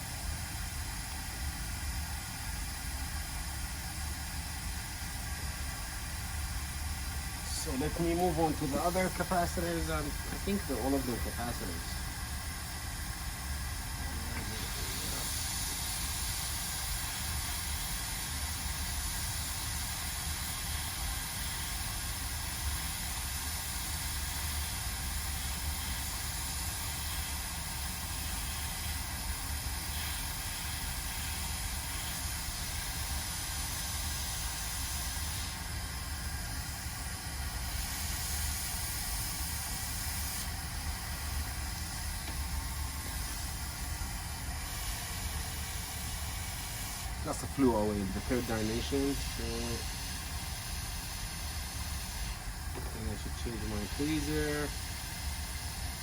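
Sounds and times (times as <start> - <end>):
hot air station hiss: 0.0 - 56.0.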